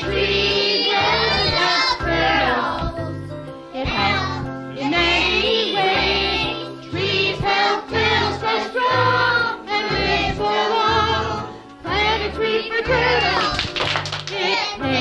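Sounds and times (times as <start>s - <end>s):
woman and children singing: 0.0s - 3.1s, 3.8s - 13.7s, 14.3s - 15.0s
instrumental backing with bass: 0.0s - 15.0s.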